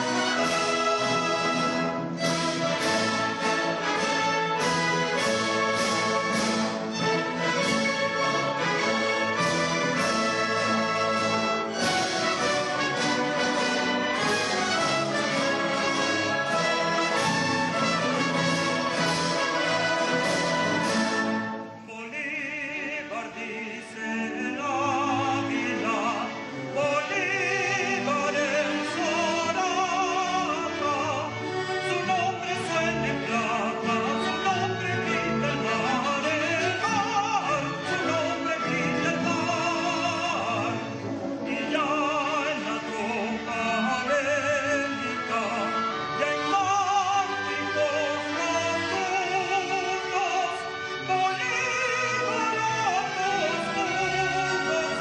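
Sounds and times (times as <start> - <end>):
operatic singing: 0.0 - 55.0
symphony orchestra: 0.0 - 55.0.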